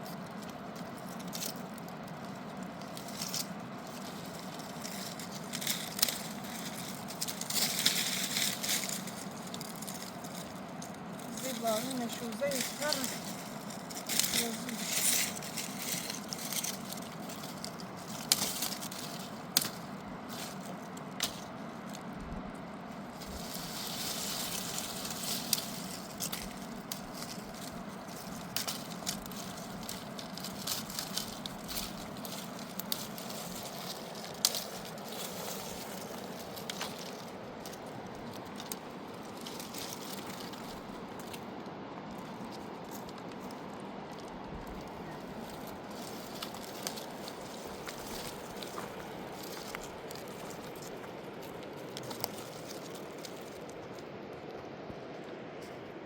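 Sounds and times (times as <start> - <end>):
wood crackling: 0.0 - 56.0.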